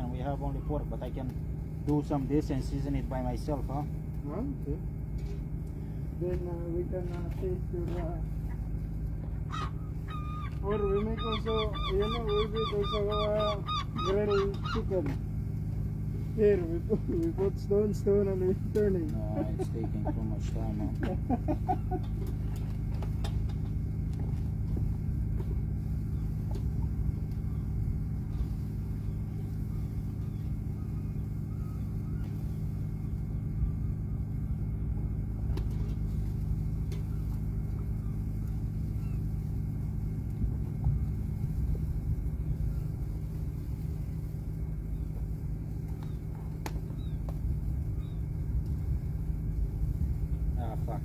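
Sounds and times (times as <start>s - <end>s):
large engine rumbling: 0.0s - 51.0s
steady hum: 0.0s - 51.0s.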